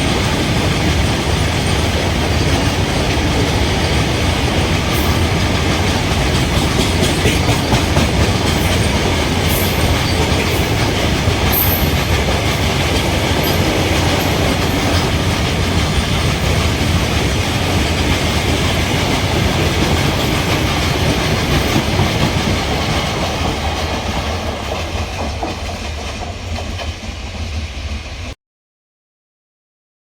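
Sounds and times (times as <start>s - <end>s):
train wheels clacking over rail joints: 0.0s - 28.1s.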